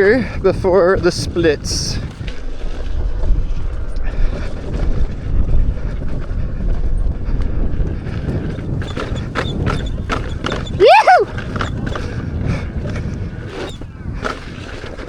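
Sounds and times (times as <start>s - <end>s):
electric unicycle rumbling on dirt: 0.0s - 15.0s
wind buffeting microphone: 0.0s - 15.0s.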